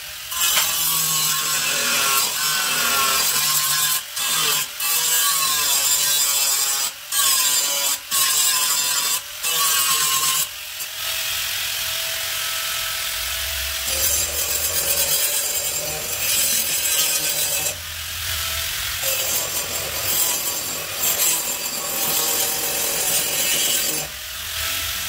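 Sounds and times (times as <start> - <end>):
power tool abrading metal: 0.0 - 25.0.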